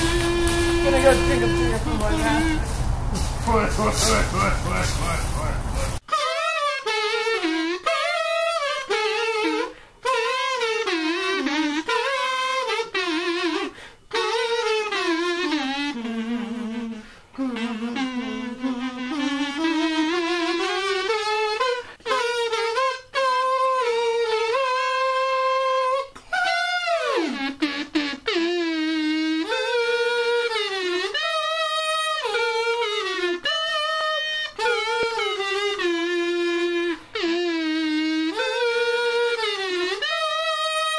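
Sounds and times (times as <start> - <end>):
person humming a tune: 0.0 - 40.9.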